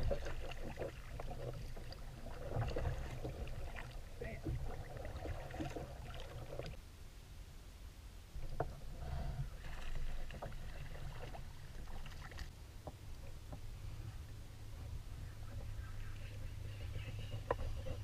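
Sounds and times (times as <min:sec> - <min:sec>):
water lapping and splashing: 0:00.0 - 0:06.8, 0:08.4 - 0:18.0
steady low rumble: 0:00.0 - 0:18.0.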